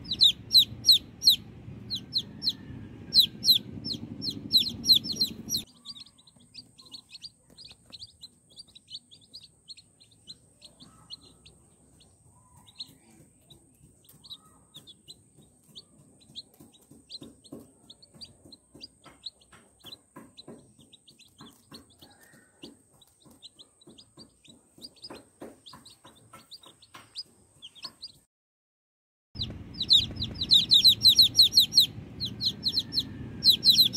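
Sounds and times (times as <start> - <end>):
birds pecking at ground: 0.0 - 28.2, 29.4 - 33.9
chicks peeping: 0.0 - 28.2, 29.4 - 33.9
hen clucking softly: 0.0 - 28.2, 29.4 - 33.9.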